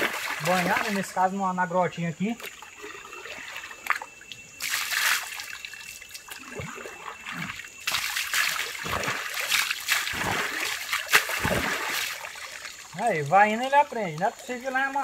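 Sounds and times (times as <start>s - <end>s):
water splashing in a stream: 0.0s - 1.2s, 2.4s - 15.0s.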